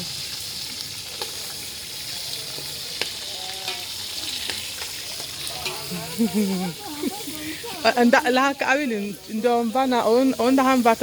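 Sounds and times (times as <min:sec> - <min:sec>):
food sizzling in hot oil: 0:00.0 - 0:11.0
wood fire crackles: 0:00.0 - 0:11.0.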